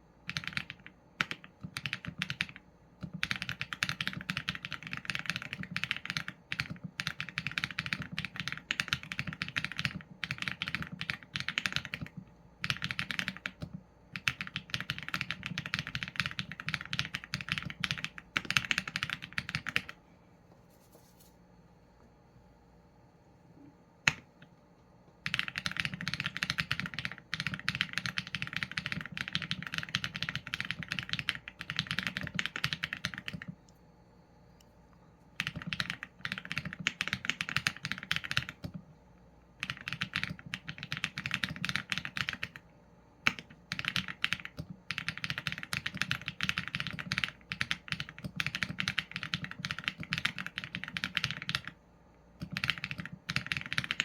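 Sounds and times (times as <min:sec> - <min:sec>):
mechanical keyboard typing: 0:00.2 - 0:20.0, 0:25.2 - 0:33.6, 0:35.4 - 0:38.8, 0:39.6 - 0:42.6, 0:43.2 - 0:51.8, 0:52.4 - 0:54.0.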